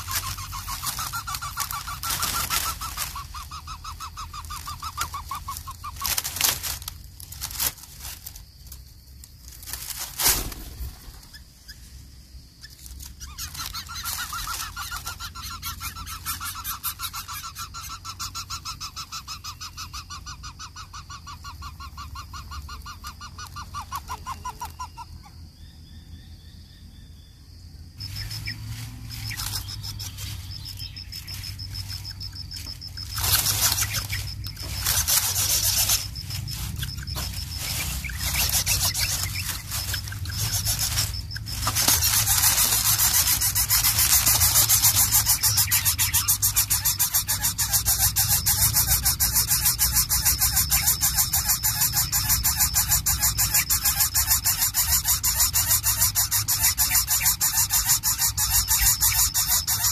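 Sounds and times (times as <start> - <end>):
nestlings calling: 0.0 - 59.9.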